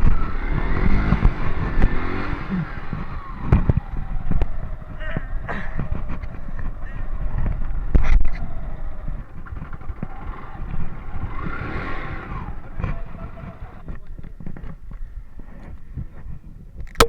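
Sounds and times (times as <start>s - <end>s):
motorcycle running: 0.0s - 16.6s
wind buffeting microphone: 0.0s - 16.9s.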